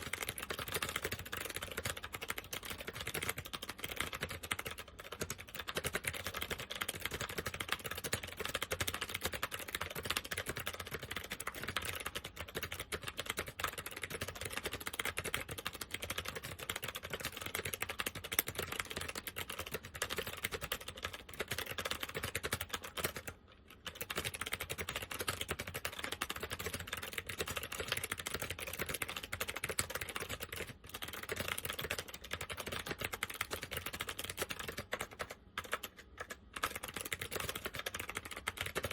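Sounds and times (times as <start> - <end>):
fast typing on clicky keyboard: 0.0 - 38.9.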